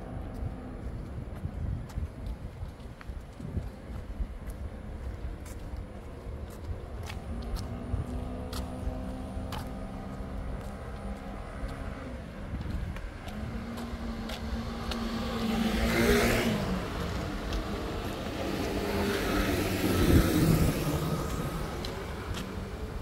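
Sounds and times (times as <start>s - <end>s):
steady engine hum: 0.0s - 23.0s
motor vehicles passing: 3.8s - 23.0s.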